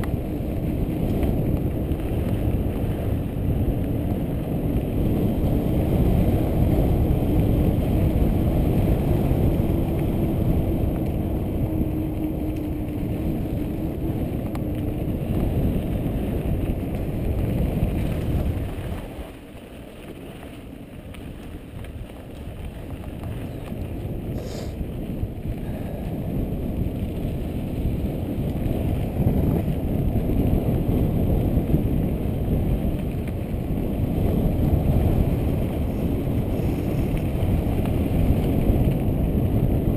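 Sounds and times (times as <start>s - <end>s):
bike tyres rumbling on dirt: 0.0s - 39.9s
wind buffeting microphone: 0.0s - 39.9s.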